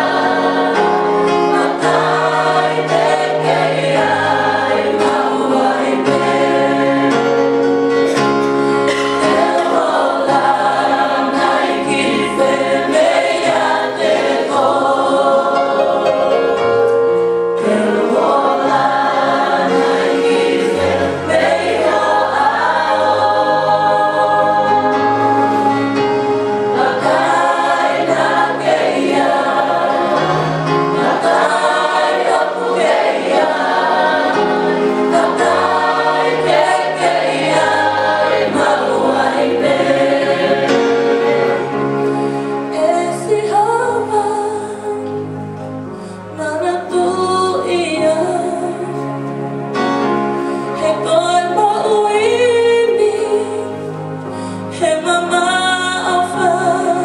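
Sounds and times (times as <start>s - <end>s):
choir singing a hymn: 0.0s - 45.4s, 46.1s - 57.0s.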